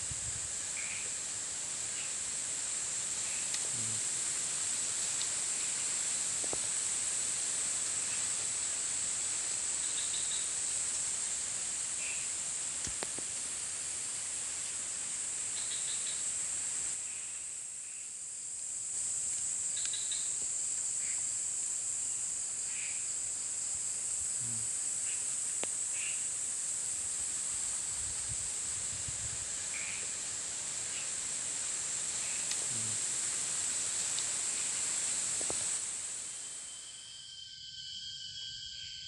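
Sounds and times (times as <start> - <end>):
broad hiss: 0.0 - 37.0
crickets shrilling: 0.0 - 39.0.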